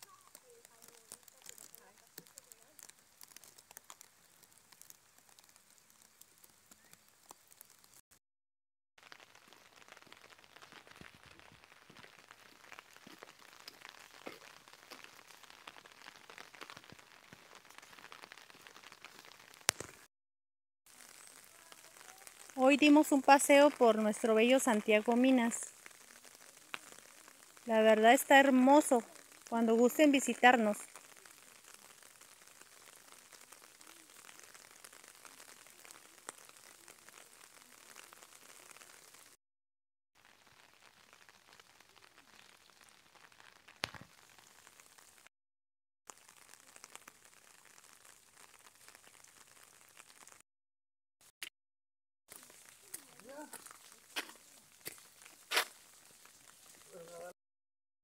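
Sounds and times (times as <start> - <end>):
light rain pattering: 0.0 - 8.0, 9.0 - 20.1, 20.9 - 39.4, 40.2 - 45.3, 46.1 - 50.4, 52.3 - 57.4.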